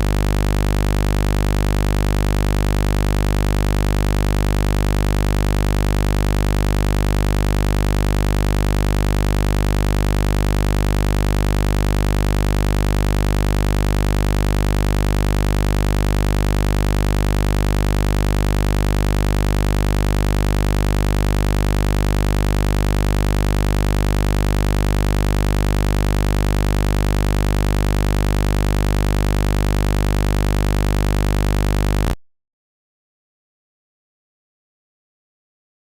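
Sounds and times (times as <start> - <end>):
heavy low buzz: 0.0 - 32.2.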